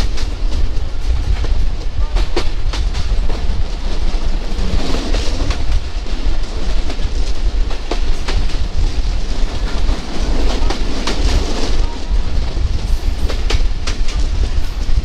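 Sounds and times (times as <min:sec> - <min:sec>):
train running rumble: 0:00.0 - 0:15.0
wheels clacking over rail joints: 0:00.0 - 0:15.0.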